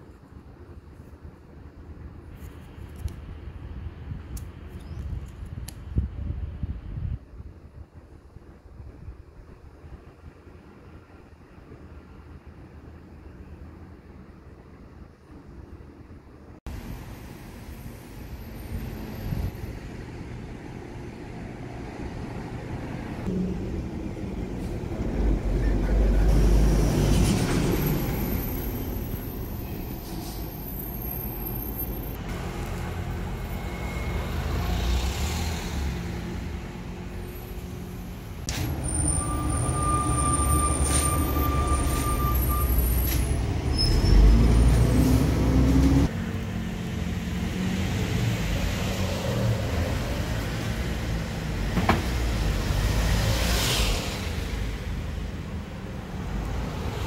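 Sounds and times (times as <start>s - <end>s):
engines rumbling in traffic: 0.0s - 57.0s.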